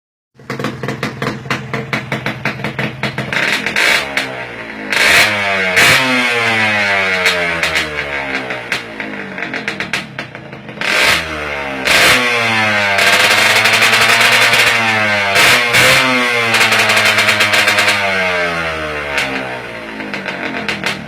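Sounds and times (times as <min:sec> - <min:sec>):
motorcycle engine revving: 0:00.4 - 0:21.0.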